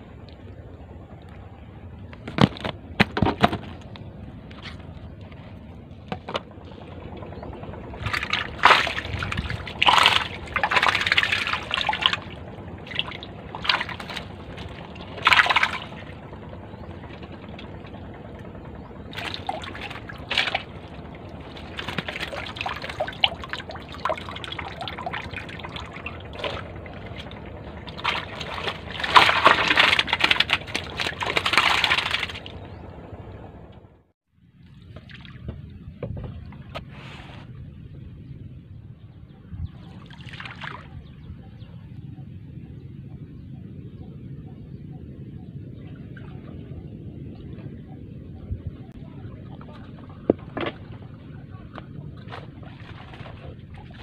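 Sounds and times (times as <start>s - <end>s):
water splashing and sloshing: 1.2s - 37.6s, 39.7s - 41.3s, 45.8s - 54.0s.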